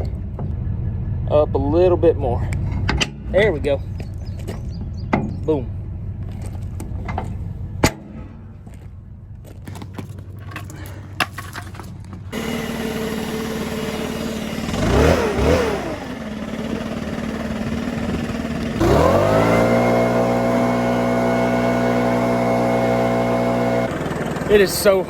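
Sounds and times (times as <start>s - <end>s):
tractor engine idling and revving: 0.0s - 25.0s.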